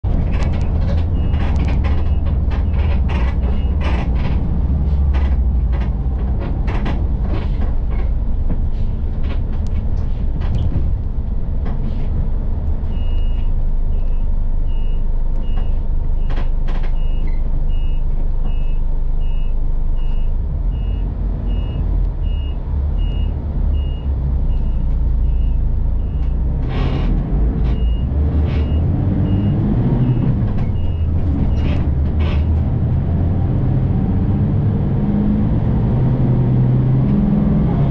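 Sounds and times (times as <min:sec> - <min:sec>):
rattles and knocks from bus body: 0:00.0 - 0:13.9, 0:14.7 - 0:18.8, 0:22.1 - 0:37.9
bus engine rumble: 0:00.0 - 0:37.9.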